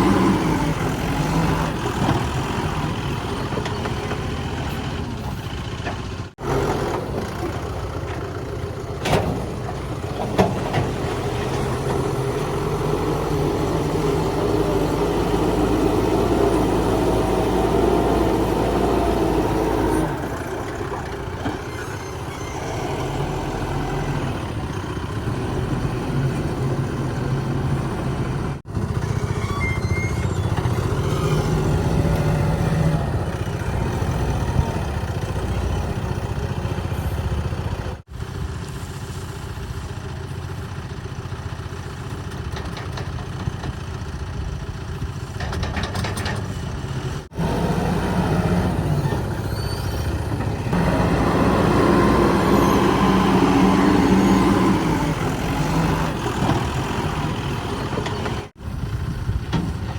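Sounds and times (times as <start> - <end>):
heavy diesel engines working: 0.0 - 59.9.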